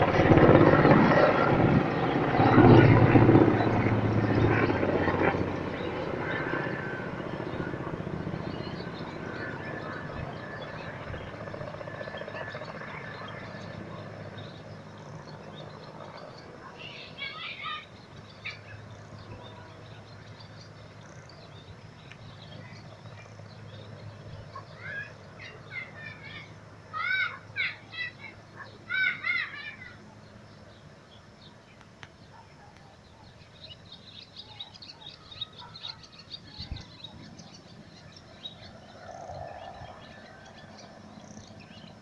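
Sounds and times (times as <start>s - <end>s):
birds chirping: 0.0s - 42.0s
distant helicopter engine and rotor: 0.0s - 42.0s.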